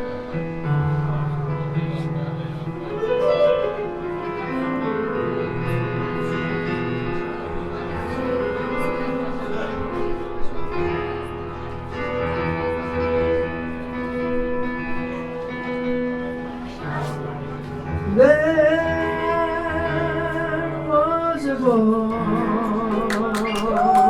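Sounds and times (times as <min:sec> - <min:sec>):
piano: 0:00.0 - 0:24.0.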